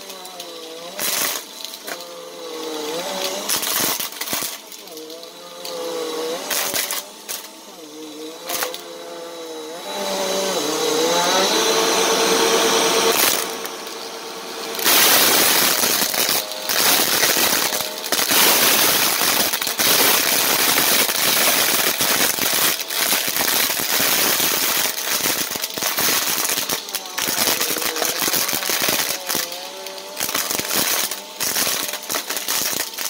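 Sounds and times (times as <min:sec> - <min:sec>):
plastic beads crackling and rattling: 0:00.0 - 0:09.2, 0:12.7 - 0:13.9, 0:14.7 - 0:33.0
vacuum cleaner motor whine: 0:00.0 - 0:33.0.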